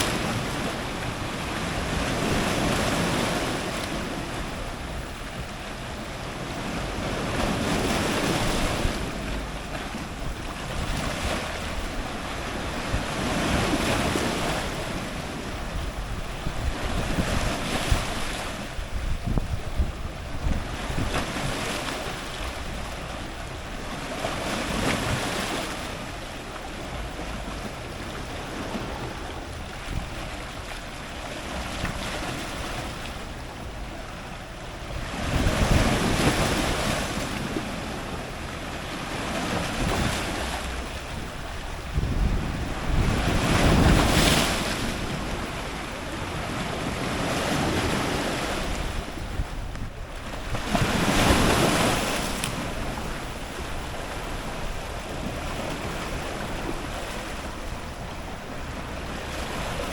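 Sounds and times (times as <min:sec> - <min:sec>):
continuous wash of water: 0:00.0 - 0:59.9
waves crashing on rocks: 0:00.0 - 0:59.9.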